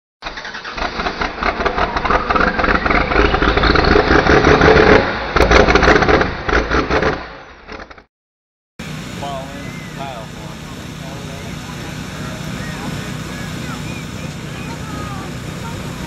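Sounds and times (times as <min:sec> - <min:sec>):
engine revving with whine: 0:00.4 - 0:08.1, 0:08.8 - 0:16.0.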